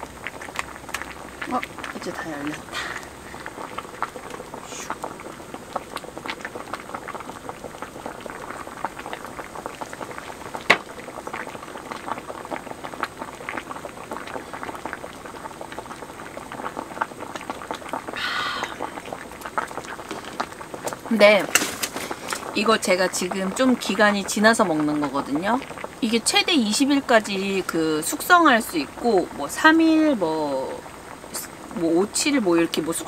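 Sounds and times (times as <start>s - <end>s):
water boiling in a pot: 0.0s - 33.0s.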